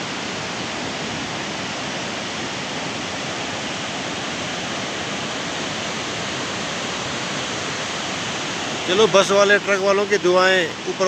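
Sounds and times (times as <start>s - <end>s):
rushing mountain stream: 0.0s - 11.0s.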